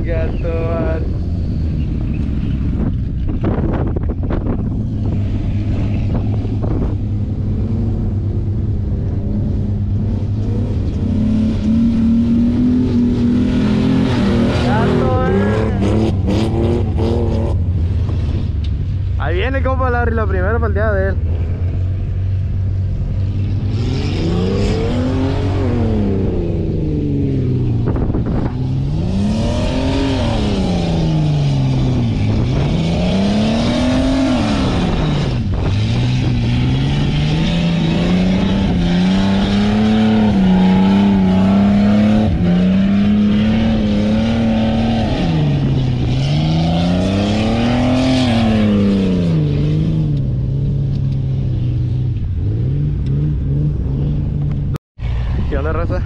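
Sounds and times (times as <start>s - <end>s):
steady low drone: 0.0s - 47.7s
off-road vehicle engine revving: 0.0s - 56.0s.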